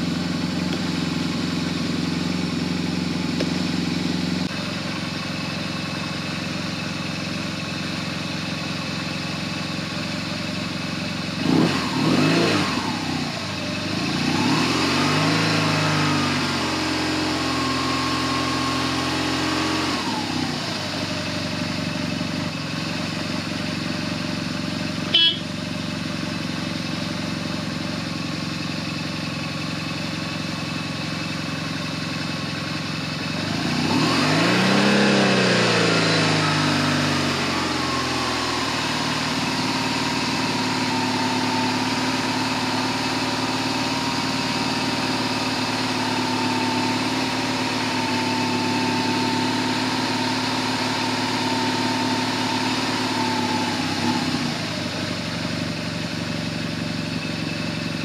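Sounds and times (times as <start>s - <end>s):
motorcycle engine idling: 0.0s - 11.6s, 12.8s - 14.5s, 20.1s - 33.8s, 37.2s - 58.0s.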